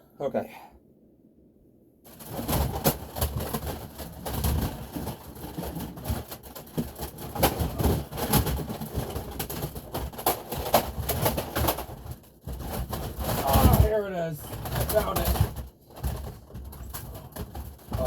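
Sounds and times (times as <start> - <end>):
plastic toys knocking and clattering: 2.1 - 18.0.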